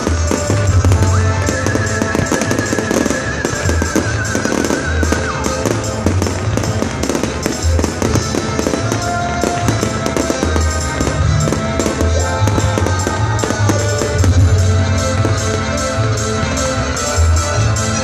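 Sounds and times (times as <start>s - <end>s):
fireworks bursting with crackle: 0.0s - 18.0s
music over loudspeakers: 0.0s - 18.0s.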